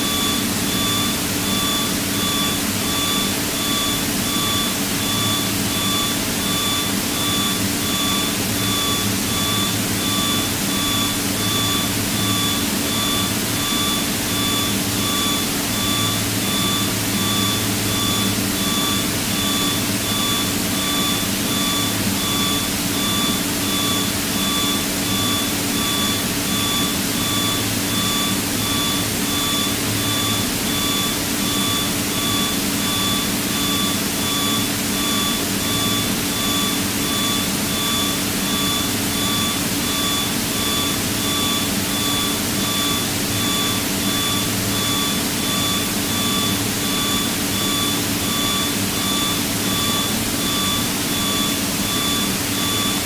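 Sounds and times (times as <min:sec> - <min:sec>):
high-pitched whine: 0:00.0 - 0:53.0.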